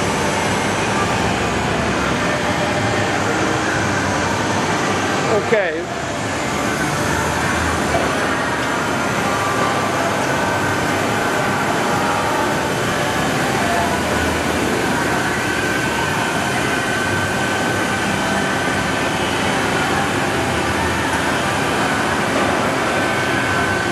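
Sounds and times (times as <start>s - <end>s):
machine shop noise: 0.0s - 23.9s
machining center running: 0.0s - 23.9s.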